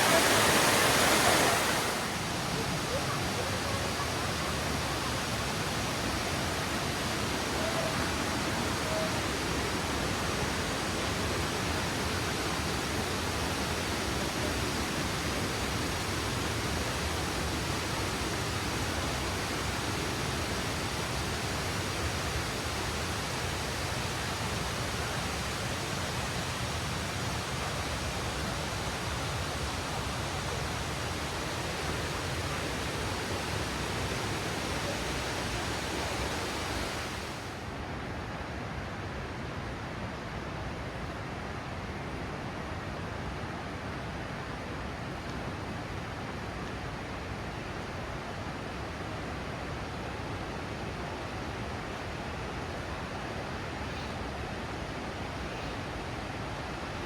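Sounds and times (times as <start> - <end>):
falling water rushing: 0.0 - 37.8, 43.0 - 57.0.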